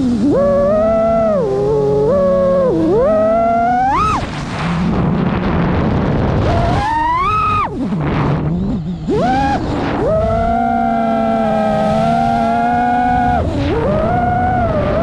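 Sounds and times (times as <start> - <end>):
drone motors and propellers whining: 0.0 - 15.0
wind noise: 0.0 - 15.0.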